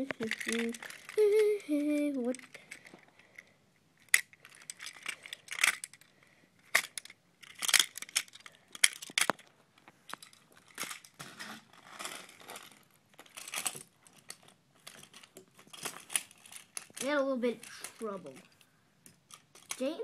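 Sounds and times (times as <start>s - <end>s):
toys clicking and clacking: 0.0s - 9.5s, 10.1s - 11.2s, 12.0s - 20.0s
rustling: 0.0s - 20.0s.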